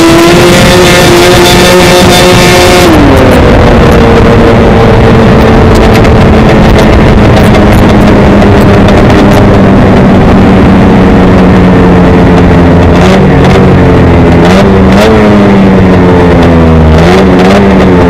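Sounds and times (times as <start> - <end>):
snowmobile engine at full throttle: 0.0 - 18.0.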